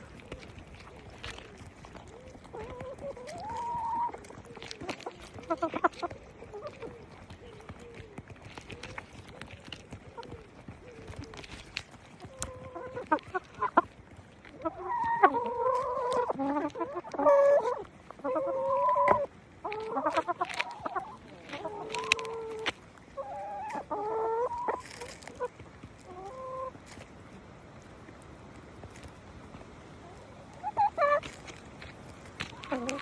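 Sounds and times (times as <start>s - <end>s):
hens clucking: 0.0s - 27.0s, 30.0s - 33.0s.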